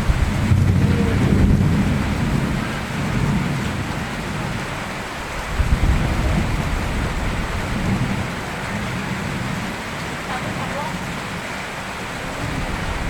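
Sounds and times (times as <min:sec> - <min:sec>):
thunder rumbling: 0:00.0 - 0:11.2, 0:12.2 - 0:13.0
steady rainfall: 0:00.0 - 0:13.0.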